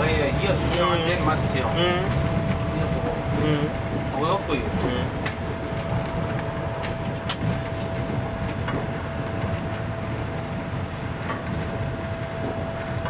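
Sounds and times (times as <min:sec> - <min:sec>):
diesel railbus engine running: 0:00.0 - 0:13.0.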